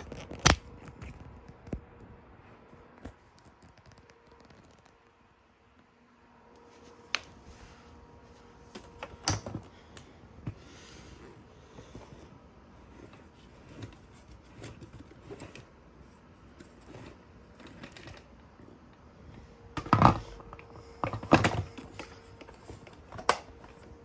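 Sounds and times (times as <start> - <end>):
handling clicks and rustles: 0.0 - 5.3, 6.6 - 24.0.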